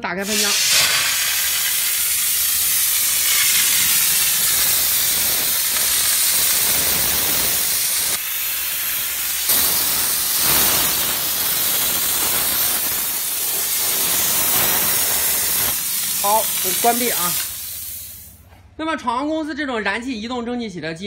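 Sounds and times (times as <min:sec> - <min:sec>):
steam jet hissing: 0:00.0 - 0:18.4.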